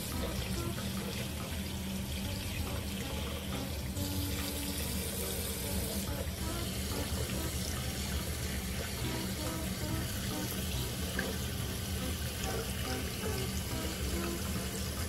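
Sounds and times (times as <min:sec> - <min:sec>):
faucet water splashing into basin: 0:00.0 - 0:15.0.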